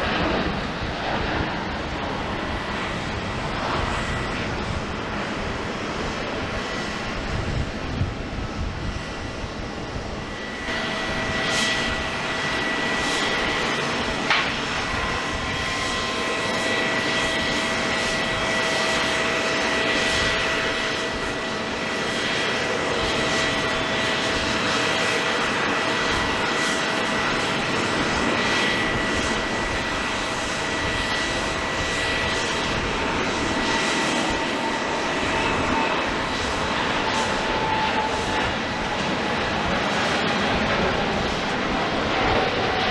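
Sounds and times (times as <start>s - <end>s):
jet engines roaring and whining: 0.0s - 42.9s.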